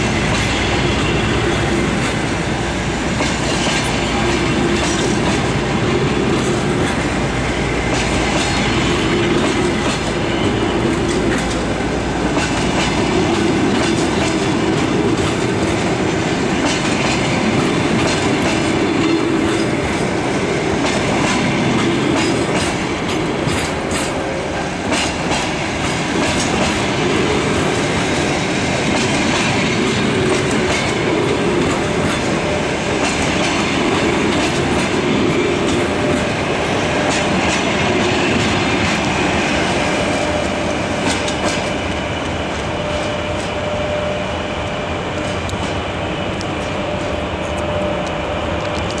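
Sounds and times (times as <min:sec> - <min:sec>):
train wheels clattering over rail joints: 0:00.0 - 0:44.1.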